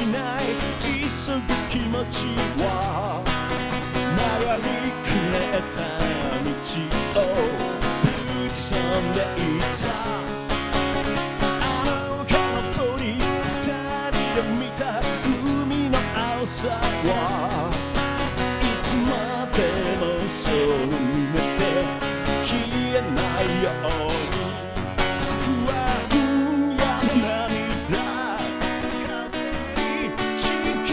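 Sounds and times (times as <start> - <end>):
man singing: 0.0 - 30.9
strummed guitar: 0.0 - 30.9.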